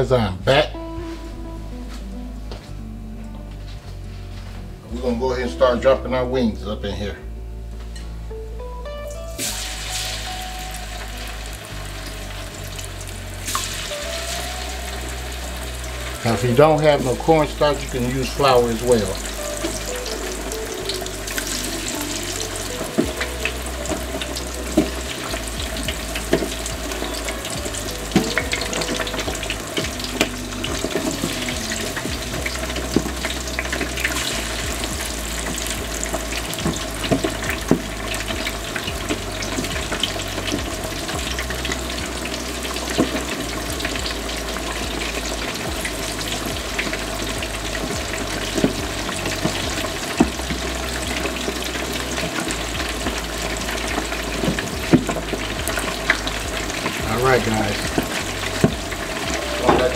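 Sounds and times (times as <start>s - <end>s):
oil bubbling and sizzling in fryer: 9.1s - 59.9s
oil popping and crackling: 9.1s - 59.9s.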